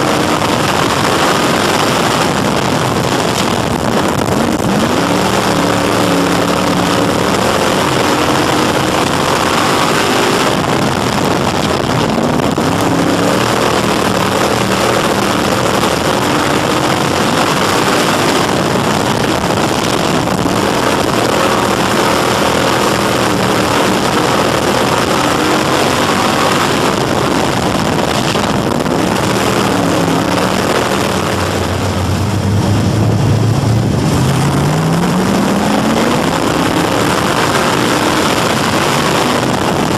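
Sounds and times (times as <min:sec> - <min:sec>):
racing engine revving: 0:00.0 - 0:39.9
track noise: 0:00.0 - 0:39.9
wind noise: 0:00.0 - 0:39.9.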